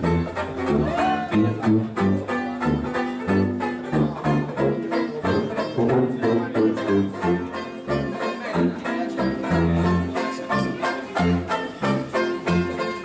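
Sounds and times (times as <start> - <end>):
banjo strumming: 0.0 - 13.0
sousaphone bass notes: 0.0 - 13.0
street band playing: 0.0 - 13.0.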